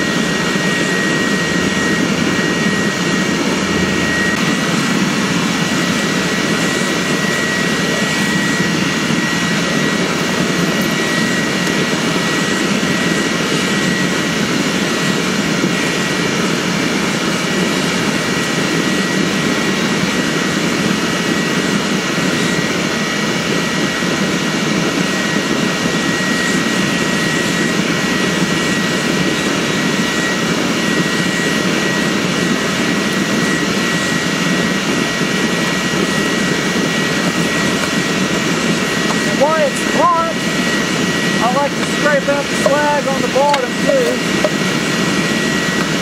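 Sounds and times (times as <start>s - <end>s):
oil burner roaring: 0.0s - 46.0s
thin high whine: 0.0s - 46.0s.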